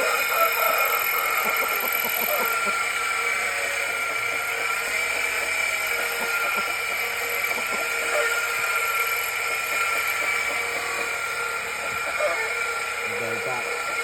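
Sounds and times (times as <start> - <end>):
electric grinder whining: 0.0 - 14.0.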